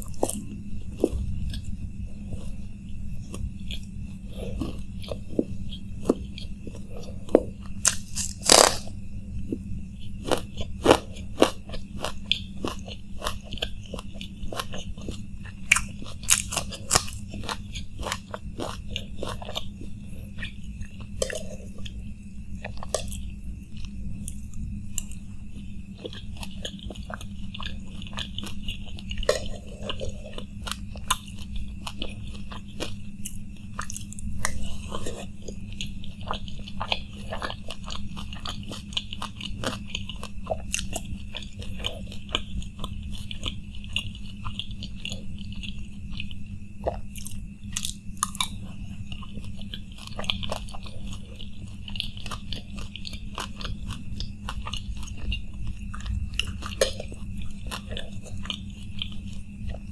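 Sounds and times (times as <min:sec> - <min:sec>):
crunching and chewing crisp shells: 0:00.0 - 0:59.9.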